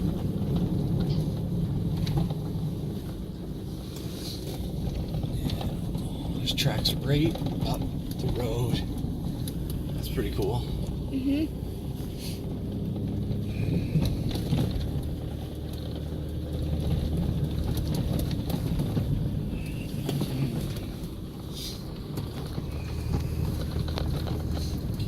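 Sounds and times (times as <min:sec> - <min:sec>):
small knocks and rattles: 0:00.0 - 0:10.1, 0:12.8 - 0:25.0
vehicle engine and road noise: 0:00.0 - 0:25.0.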